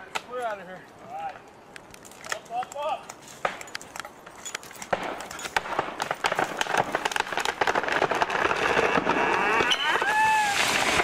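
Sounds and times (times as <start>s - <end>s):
wood and branches snapping: 1.2s - 11.0s.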